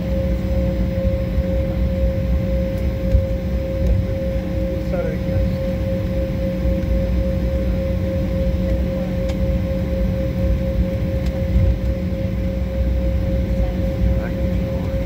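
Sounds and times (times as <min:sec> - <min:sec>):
jet engines rumbling: 0:00.0 - 0:15.0
mid-pitched hum: 0:00.0 - 0:15.0.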